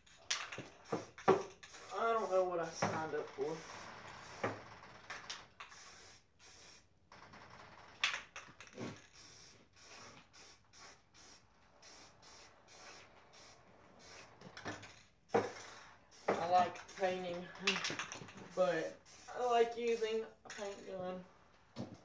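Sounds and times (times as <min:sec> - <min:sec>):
spray paint can hissing: 0:00.3 - 0:04.6, 0:05.3 - 0:06.9, 0:08.0 - 0:21.0.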